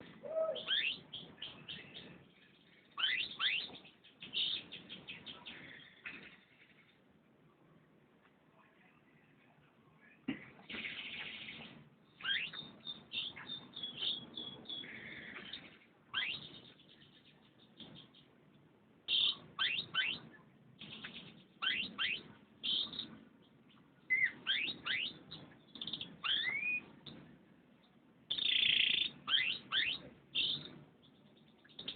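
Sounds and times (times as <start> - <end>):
canary singing: 0.0 - 7.1, 10.7 - 31.9.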